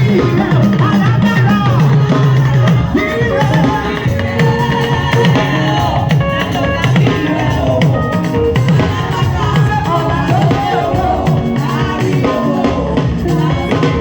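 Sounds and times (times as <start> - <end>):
upbeat gospel band music: 0.0 - 14.0.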